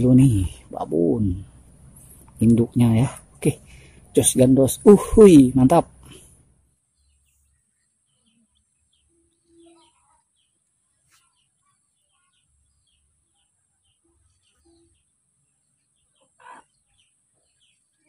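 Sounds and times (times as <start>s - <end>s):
bird chirps: 0.0s - 18.0s.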